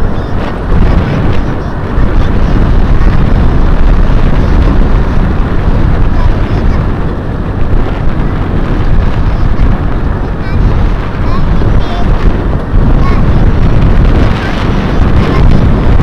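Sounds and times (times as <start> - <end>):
road and vehicle noise: 0.0 - 16.0
wind buffeting on microphone: 0.0 - 16.0.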